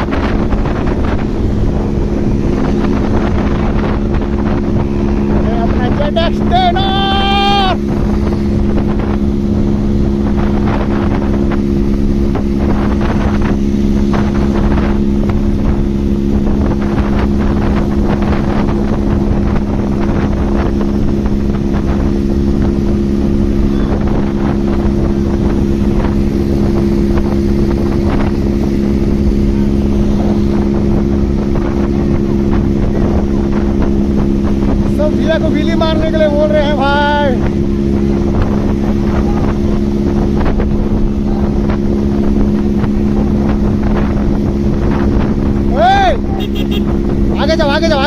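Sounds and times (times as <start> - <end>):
motorcycle engine running: 0.0 - 48.0
wind on microphone: 0.0 - 48.0.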